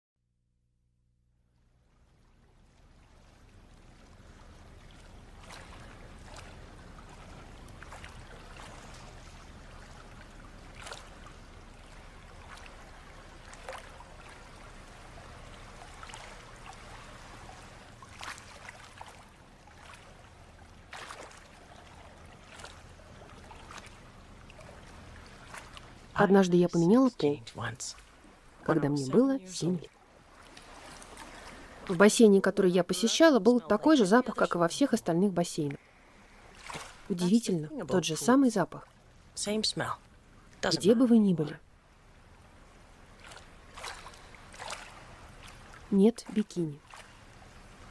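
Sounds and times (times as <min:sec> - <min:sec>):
pool water lapping and splashing: 0:01.5 - 0:47.9.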